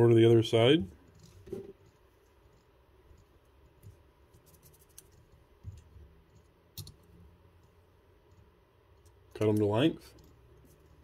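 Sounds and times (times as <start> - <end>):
faint clicks and scratches of tools: 0.9 - 11.0.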